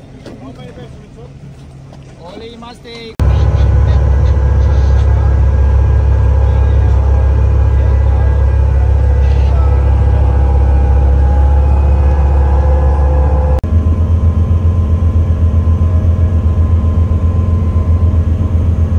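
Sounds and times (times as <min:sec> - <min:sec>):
speedboat engine drone: 0:03.2 - 0:18.9.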